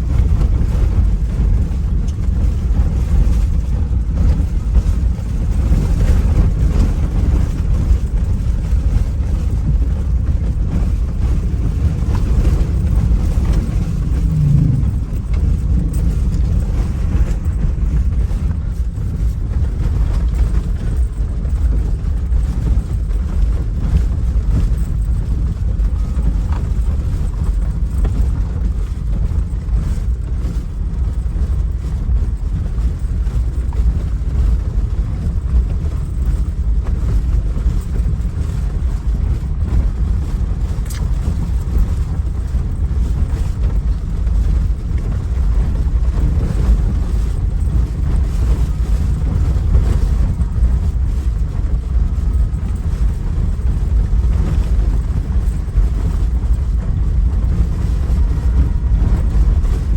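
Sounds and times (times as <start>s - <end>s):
motor rumbling: 0.0s - 59.9s
wind buffeting microphone: 0.0s - 59.9s.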